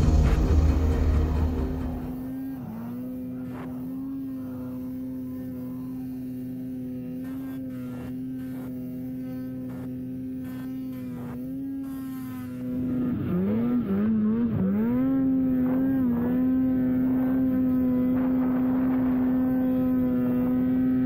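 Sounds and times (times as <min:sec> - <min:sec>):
engine running at high revs: 0:00.0 - 0:21.0.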